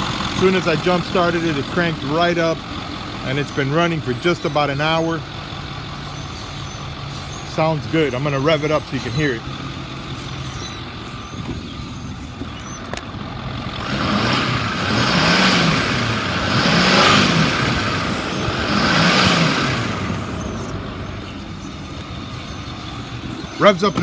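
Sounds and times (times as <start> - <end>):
diesel engine idling and revving: 0.0 - 24.0.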